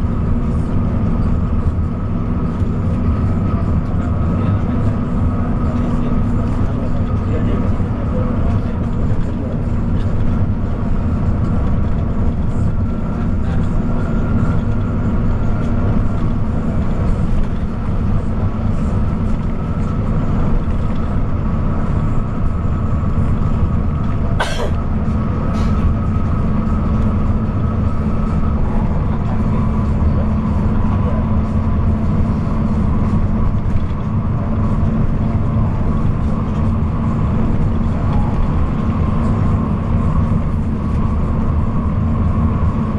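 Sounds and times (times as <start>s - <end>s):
bus engine and tyre rumble: 0.0s - 42.9s.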